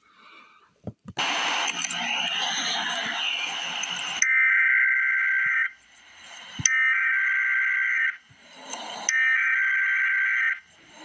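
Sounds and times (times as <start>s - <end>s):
screechy digital data tones: 1.2s - 11.0s.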